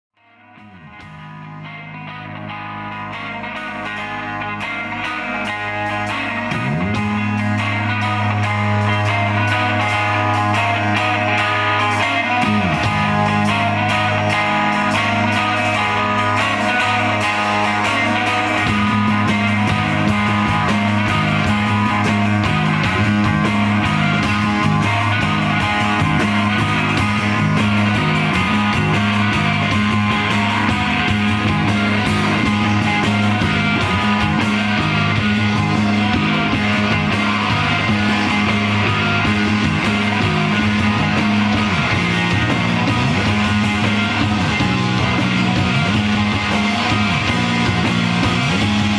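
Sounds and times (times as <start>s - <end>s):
electric bass riff: 0.2s - 48.9s
electric guitar through an amp: 0.2s - 48.9s
drum kit with busy cymbals: 3.1s - 48.9s.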